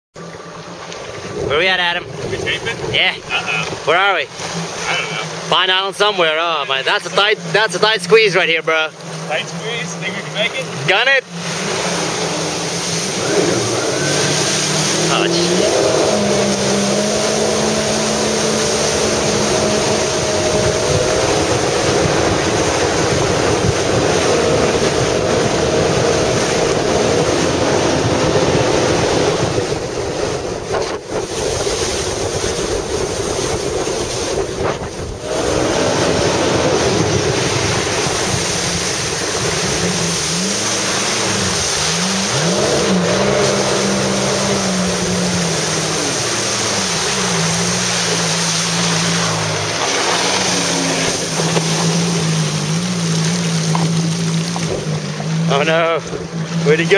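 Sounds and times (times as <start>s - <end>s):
jet ski engine running: 0.1s - 56.9s
rush of wind and water: 0.2s - 56.9s.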